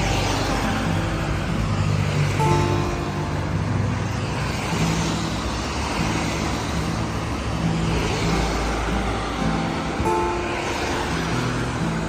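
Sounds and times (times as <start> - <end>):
background music: 0.0 - 12.0
tyres hissing on wet road: 0.0 - 12.0.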